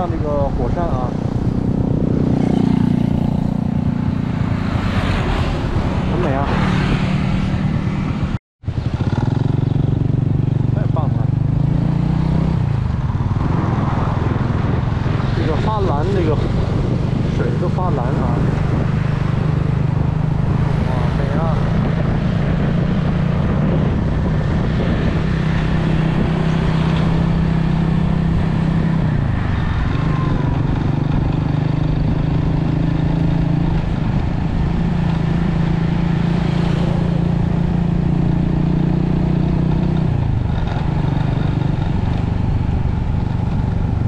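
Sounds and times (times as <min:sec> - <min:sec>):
motorcycle engine running: 0:00.0 - 0:06.4, 0:07.2 - 0:44.0
wind rushing: 0:00.0 - 0:10.2, 0:11.6 - 0:44.0.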